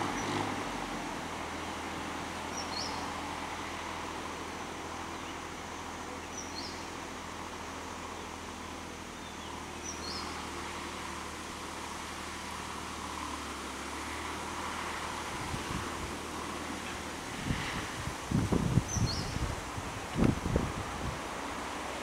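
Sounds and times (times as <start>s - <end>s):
diesel tractor engine running: 0.0s - 22.0s.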